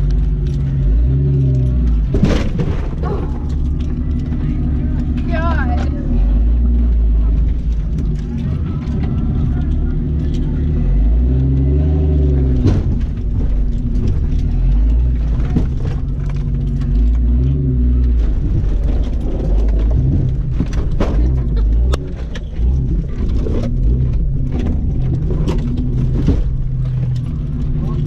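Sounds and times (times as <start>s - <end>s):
car engine running at low revs: 0.0s - 28.0s
knocks and clunks: 0.0s - 28.0s.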